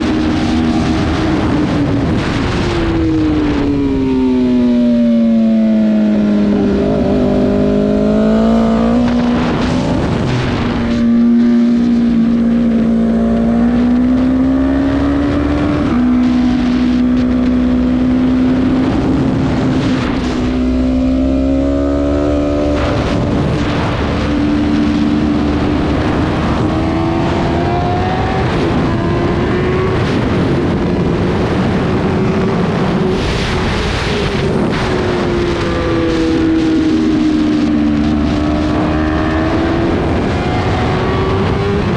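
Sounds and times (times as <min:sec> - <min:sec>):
motorcycle engines at high revs: 0:00.0 - 0:41.9.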